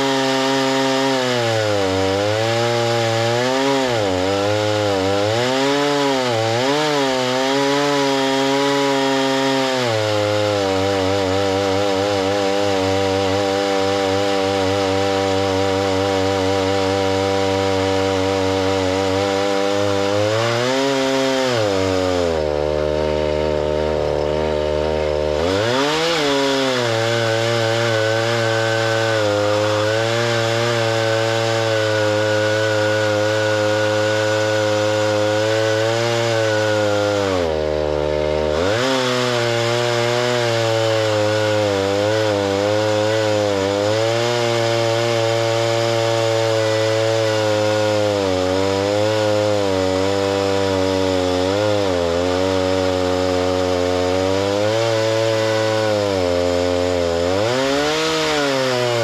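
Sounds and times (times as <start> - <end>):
chainsaw running under load: 0.0 - 59.0.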